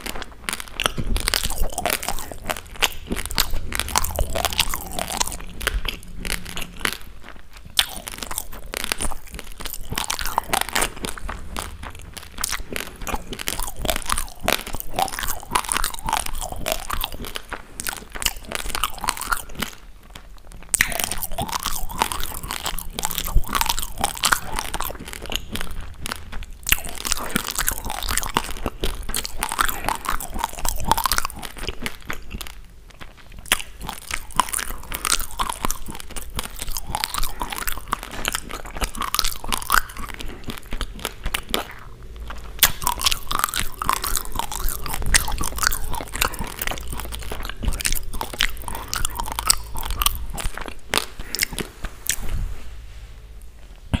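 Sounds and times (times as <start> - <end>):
chewing hard rice grains: 0.0 - 52.4.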